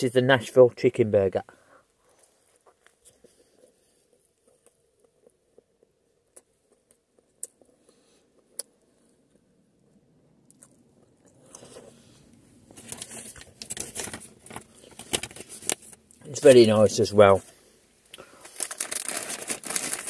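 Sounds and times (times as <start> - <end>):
crackling chewing of fried food: 1.9 - 16.2, 17.6 - 20.0.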